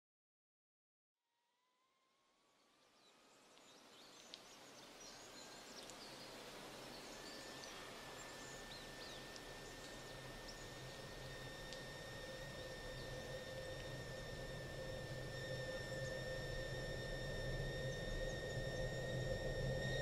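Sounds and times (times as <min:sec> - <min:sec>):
low hum: 0:03.2 - 0:20.0.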